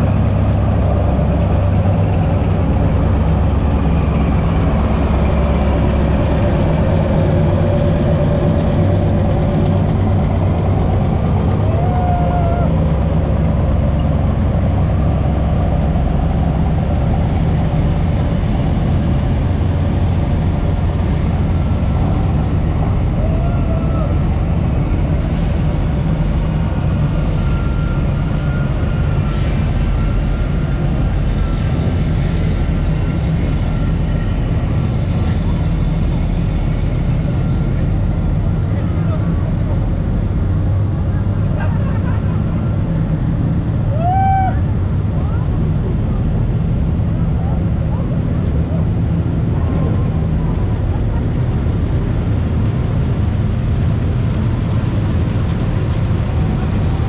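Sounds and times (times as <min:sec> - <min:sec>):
heavy vehicles rumbling past: 0:00.0 - 0:57.0.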